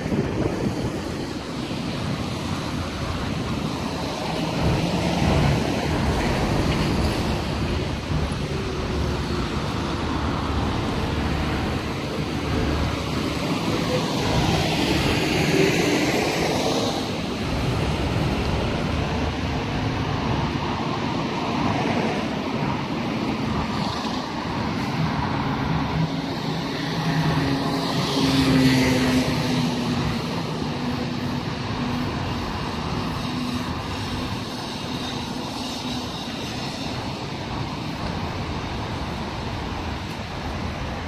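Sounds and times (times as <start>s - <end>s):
car and bus engines: 0.0s - 41.0s
tyres hissing on wet road: 0.0s - 41.0s.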